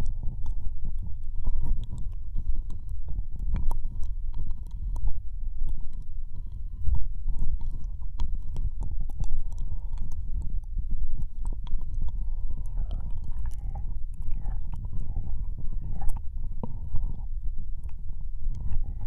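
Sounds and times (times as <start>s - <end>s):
steady low rumble: 0.0s - 19.0s
wet tongue and lip clicks: 0.0s - 19.0s.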